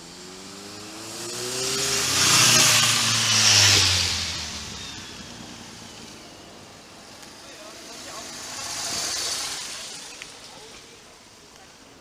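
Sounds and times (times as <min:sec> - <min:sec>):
motor vehicle passing by: 0:00.0 - 0:06.5, 0:07.4 - 0:11.0.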